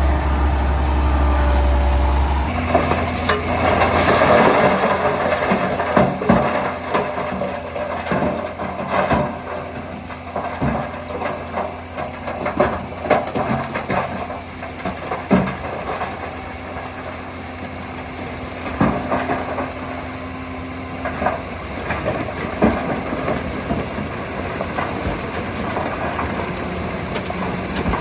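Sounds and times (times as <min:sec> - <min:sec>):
bulldozer engine running: 0:00.0 - 0:28.0.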